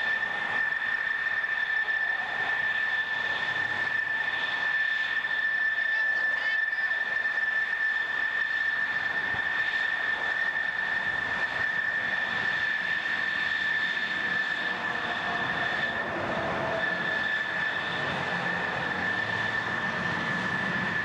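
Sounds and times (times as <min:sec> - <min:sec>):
jet engines whining: 0:00.0 - 0:21.0.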